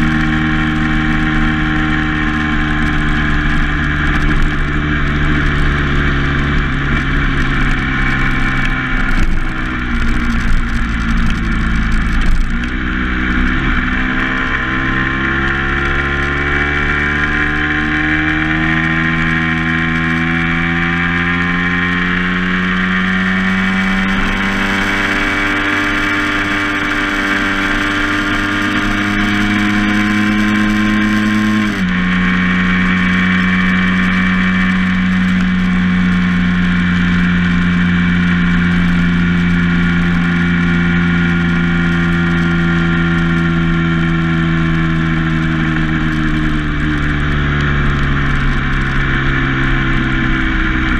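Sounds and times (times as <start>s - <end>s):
road noise: 0.0s - 50.9s
vehicle engine running: 0.0s - 50.9s.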